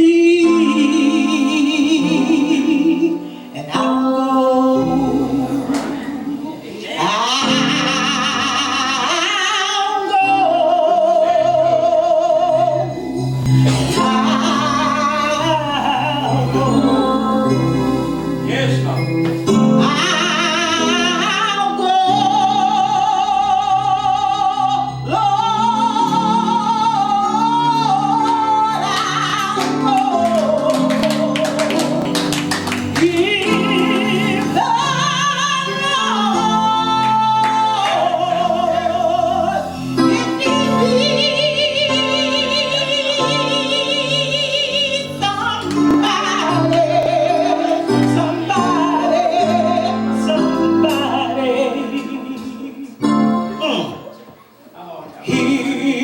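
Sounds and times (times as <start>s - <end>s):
person singing gospel-style notes: 0.0s - 54.2s, 55.2s - 56.0s
instrumental accompaniment: 7.4s - 56.0s.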